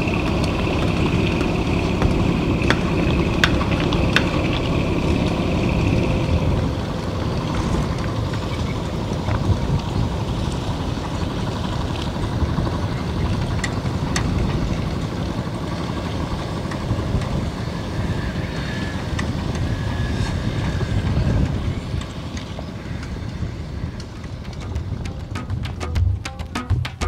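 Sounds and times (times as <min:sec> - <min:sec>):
boat diesel engine rumbling: 0:00.0 - 0:27.0.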